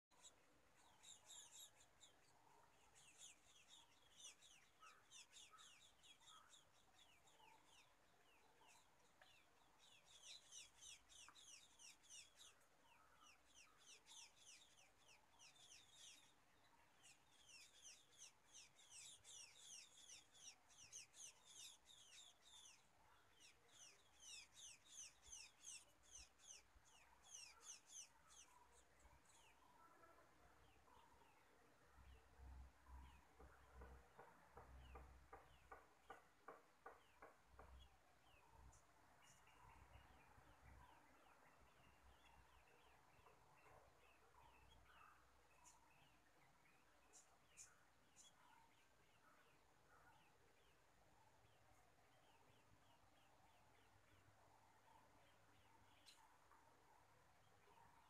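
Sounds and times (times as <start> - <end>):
small bird chirping: 0.1 - 58.0.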